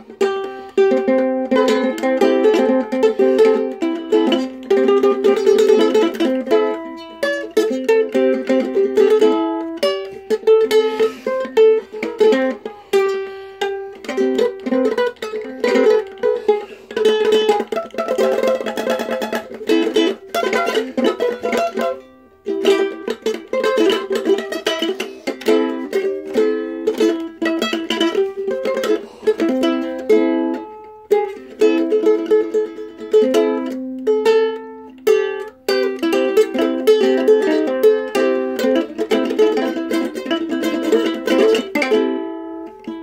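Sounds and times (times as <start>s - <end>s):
ukulele playing: 0.0s - 43.0s.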